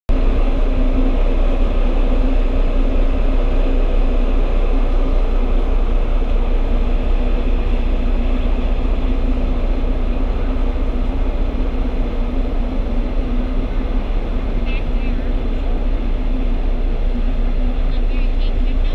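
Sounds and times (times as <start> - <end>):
ship engines humming: 0.1 - 18.9
wind rumbling on microphone: 0.1 - 18.9.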